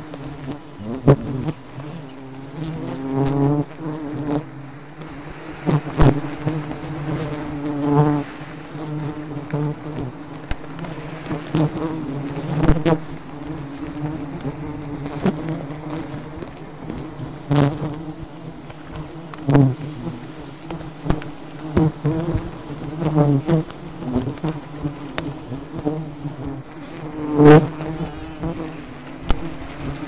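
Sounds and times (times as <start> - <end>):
honeybees buzzing: 0.0 - 30.0.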